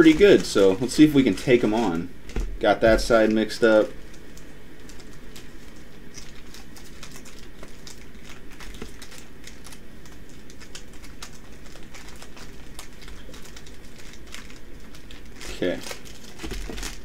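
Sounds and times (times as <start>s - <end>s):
foil packs crinkling and rustling: 0.0s - 17.0s.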